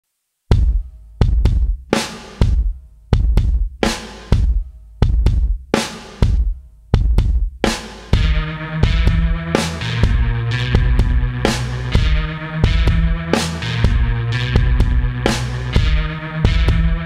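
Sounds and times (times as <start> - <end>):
heavy drum hits with bass boom: 0.5 - 17.0
steady held chords: 0.5 - 17.0.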